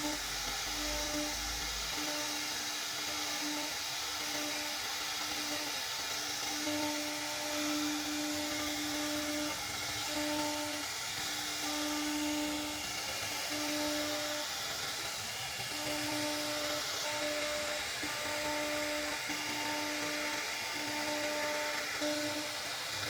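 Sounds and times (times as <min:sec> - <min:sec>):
router spindle cutting wood: 0:00.0 - 0:23.0.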